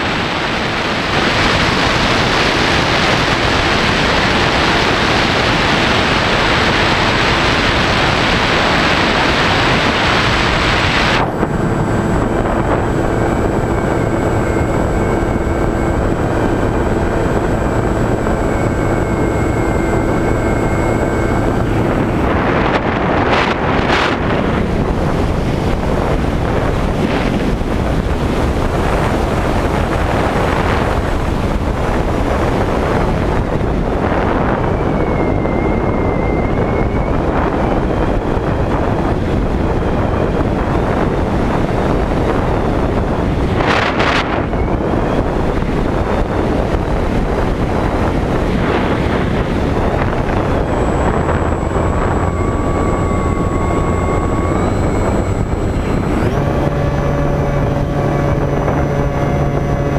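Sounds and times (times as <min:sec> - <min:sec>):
electric motor whine: 0:00.0 - 0:59.9
wind rushing over microphone: 0:00.0 - 0:59.9.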